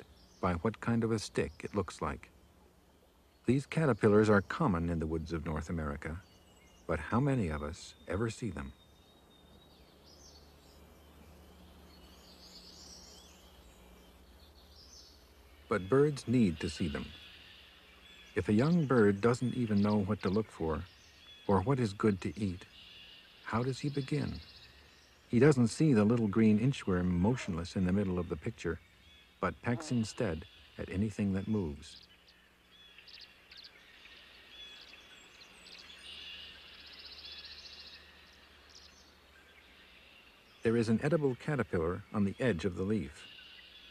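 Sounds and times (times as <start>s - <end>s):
faint high bird chirps: 0.0s - 43.9s
low steady hum and hiss: 0.0s - 43.9s.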